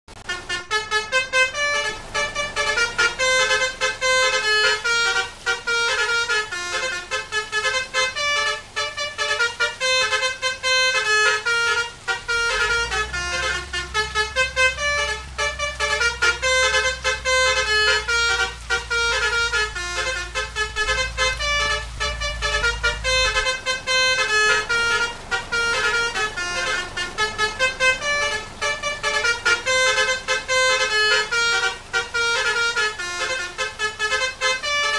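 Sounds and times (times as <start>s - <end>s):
bus melody horn playing: 0.1s - 34.9s
low steady rumble: 0.1s - 34.9s.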